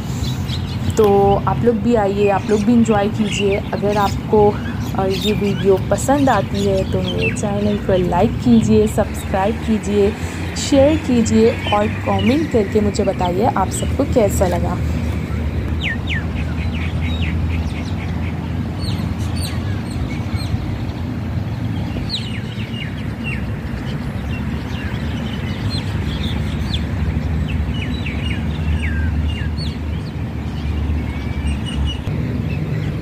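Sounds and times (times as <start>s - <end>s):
steady low rumble: 0.0s - 28.6s, 29.3s - 33.0s
small birds chirping: 0.0s - 33.0s.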